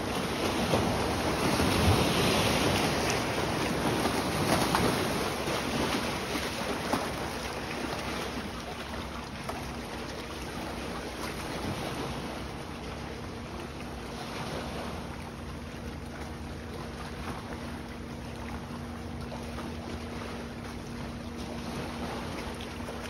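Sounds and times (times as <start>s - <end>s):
waves slapping against boat and dock: 0.0s - 23.0s.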